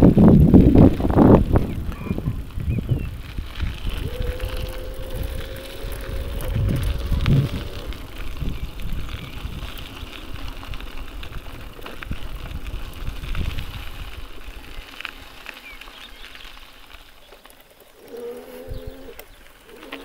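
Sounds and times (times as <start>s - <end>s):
wind buffeting microphone: 0.0s - 16.6s, 18.2s - 20.0s
faint ticks and rattles: 0.0s - 20.0s.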